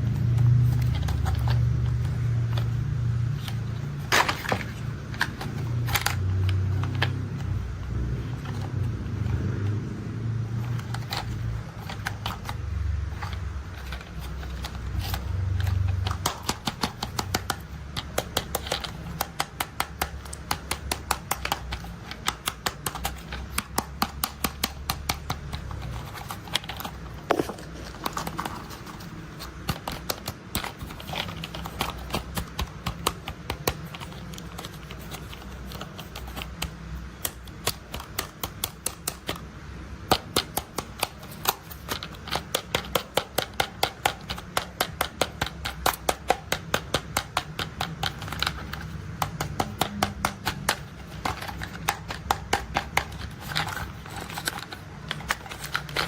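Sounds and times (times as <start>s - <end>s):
tapping on toy vehicles: 10.6s - 56.0s.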